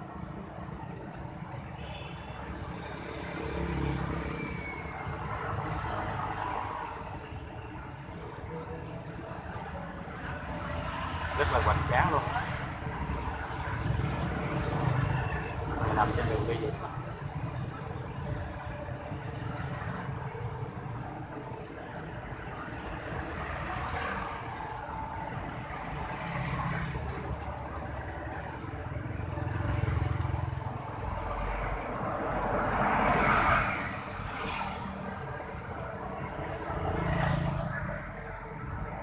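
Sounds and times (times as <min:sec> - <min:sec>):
passing motorbikes and cars: 0:00.0 - 0:39.0
road rush: 0:00.0 - 0:39.0.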